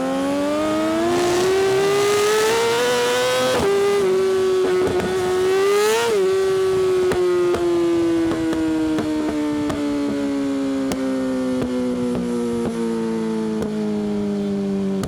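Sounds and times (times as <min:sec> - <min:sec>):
motorcycle engine revving: 0:00.0 - 0:14.4.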